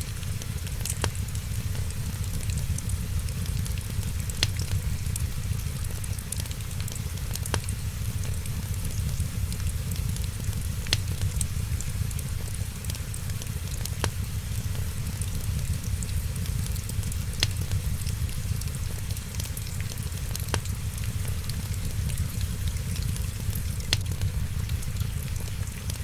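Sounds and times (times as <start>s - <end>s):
steady low rumble: 0.0s - 26.0s
wood fire crackling: 0.0s - 26.0s
sharp fire pops: 0.2s - 26.0s.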